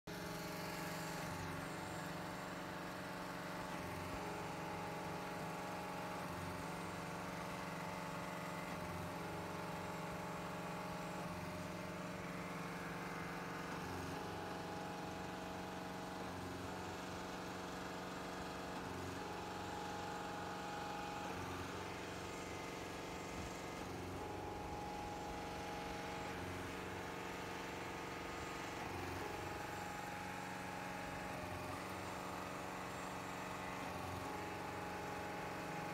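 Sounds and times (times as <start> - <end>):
diesel engine running: 0.1 - 35.9.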